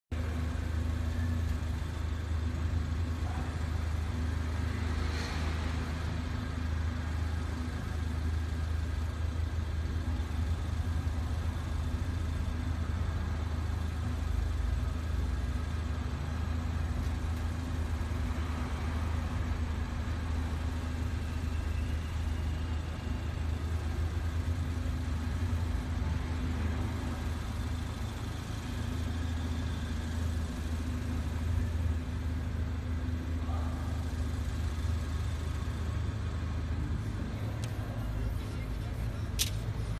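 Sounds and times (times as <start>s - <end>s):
car engine idling: 0.1s - 39.9s.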